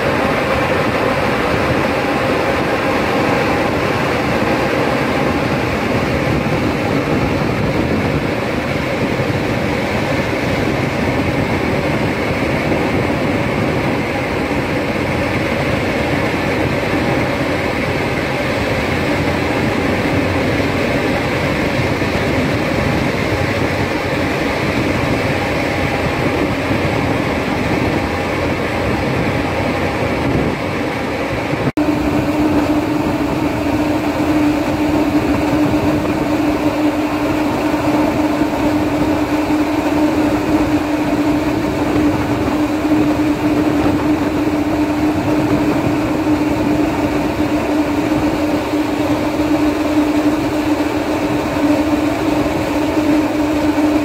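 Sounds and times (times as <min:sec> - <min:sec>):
ferry engine drone: 0:00.0 - 0:54.0
steady humming tone: 0:00.0 - 0:54.0.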